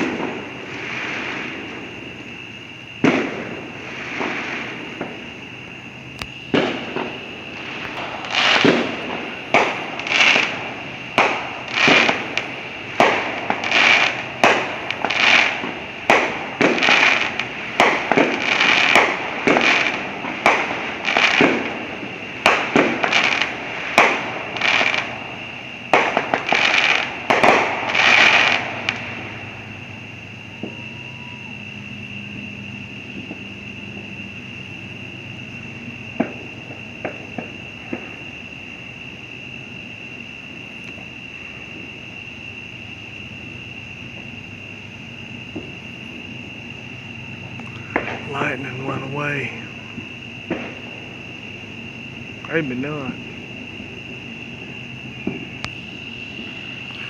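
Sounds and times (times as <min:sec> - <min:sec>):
fireworks banging: 0:00.0 - 0:31.7, 0:32.3 - 0:38.4, 0:45.4 - 0:57.0.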